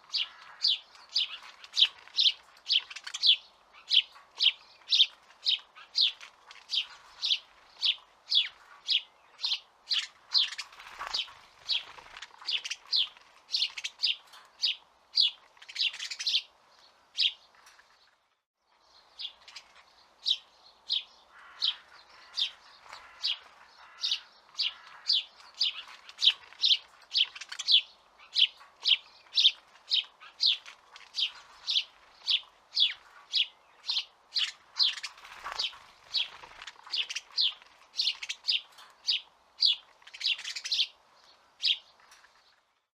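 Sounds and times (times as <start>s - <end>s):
sparrow chirping: 0.0s - 42.8s.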